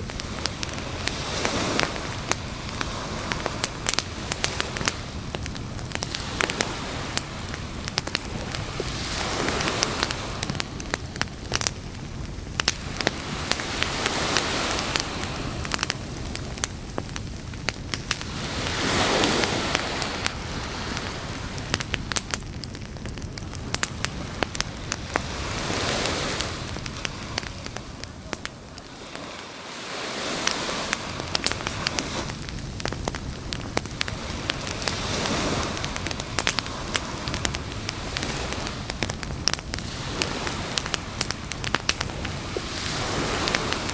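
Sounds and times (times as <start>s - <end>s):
campfire crackling and popping: 0.0s - 43.9s
surf washing in: 0.0s - 43.9s.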